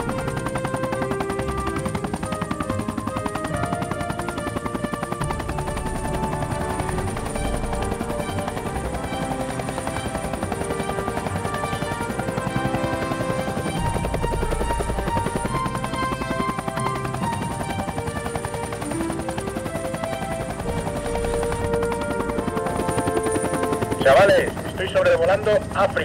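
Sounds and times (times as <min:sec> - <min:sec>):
music playing: 0:00.0 - 0:25.3
helicopter rotor chopping: 0:00.0 - 0:26.0.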